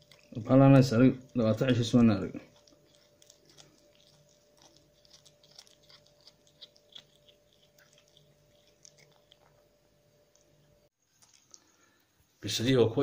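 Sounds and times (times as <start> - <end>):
kitten chewing and crunching food: 0.0 - 12.1
faint hum: 0.0 - 13.0.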